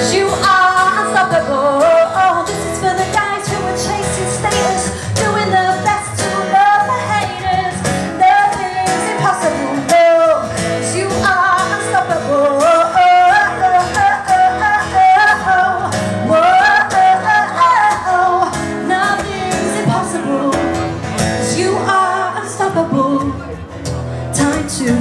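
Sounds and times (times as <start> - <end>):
woman singing into a microphone: 0.0 - 25.0.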